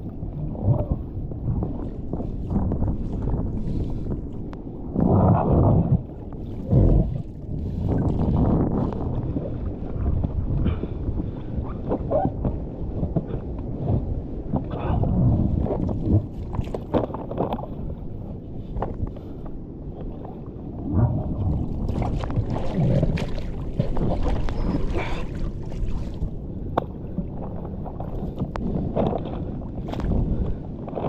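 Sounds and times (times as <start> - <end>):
sea and wind noise: 0.0 - 31.0.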